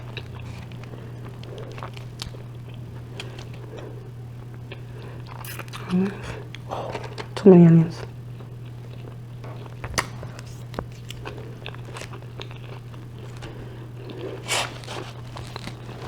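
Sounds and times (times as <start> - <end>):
close chewing with mouth clicks: 0.0 - 7.4, 8.0 - 16.0
steady low hum: 0.0 - 16.0.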